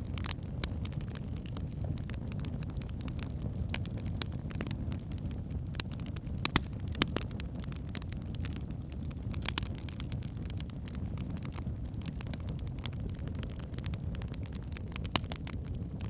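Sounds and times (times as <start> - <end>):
burning logs crackling and popping: 0.0 - 16.0
low rumble of flames: 0.0 - 16.0.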